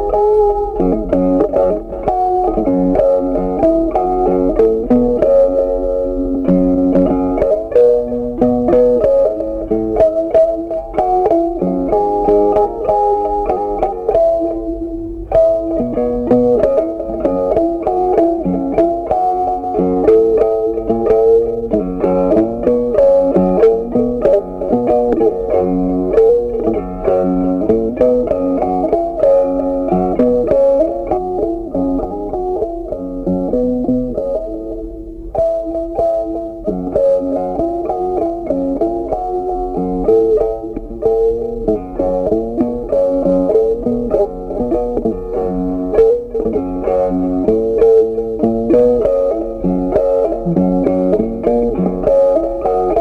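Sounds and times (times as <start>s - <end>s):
plucked-string melody: 0.0s - 53.0s.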